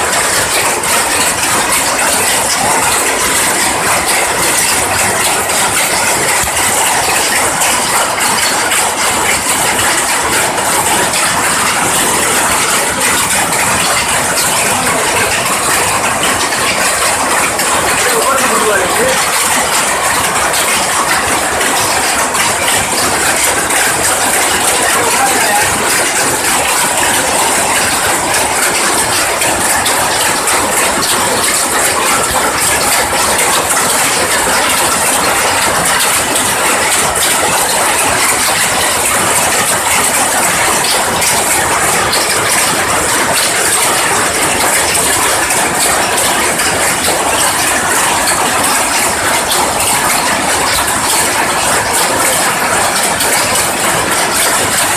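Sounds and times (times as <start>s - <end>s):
power looms clattering: 0.0s - 54.9s.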